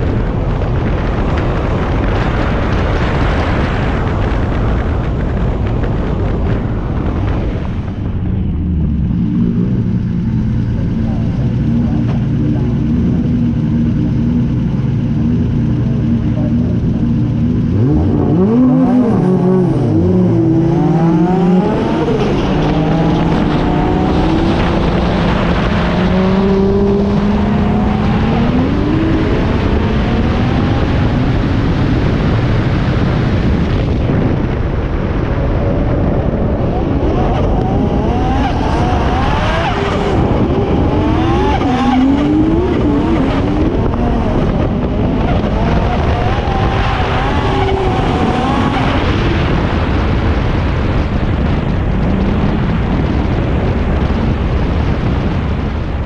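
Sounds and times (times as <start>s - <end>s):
race car engine accelerating: 7.3s - 34.0s, 35.8s - 54.6s.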